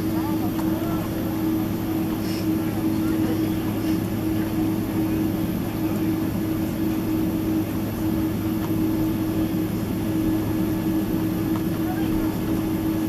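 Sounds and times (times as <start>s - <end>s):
airplane cabin engine rush: 0.0s - 13.0s.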